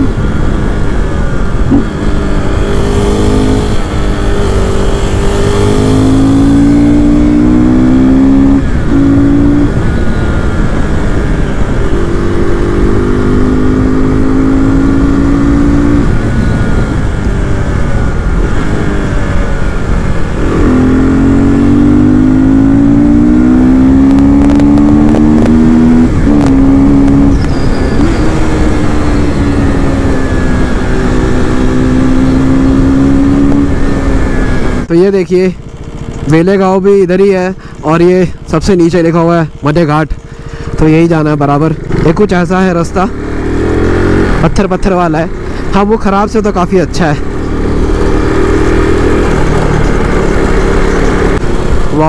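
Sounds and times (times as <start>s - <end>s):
motorcycle engine revving through gears: 0.0s - 52.0s.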